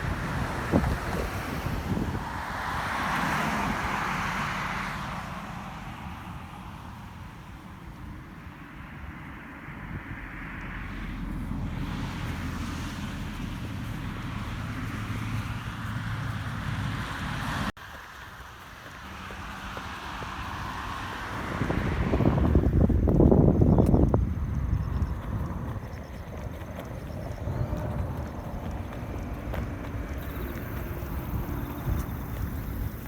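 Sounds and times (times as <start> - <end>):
wind buffeting microphone: 0.0 - 17.7, 19.4 - 33.0
outdoor rushing noise: 0.0 - 33.0.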